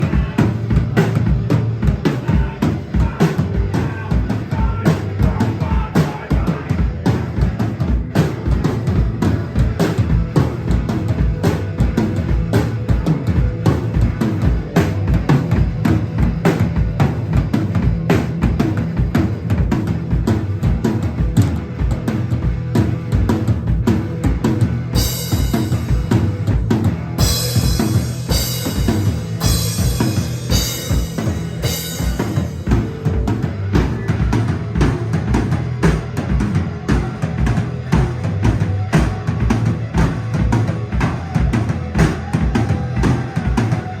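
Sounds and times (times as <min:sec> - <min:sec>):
drum kit playing steady beat: 0:00.0 - 0:44.0.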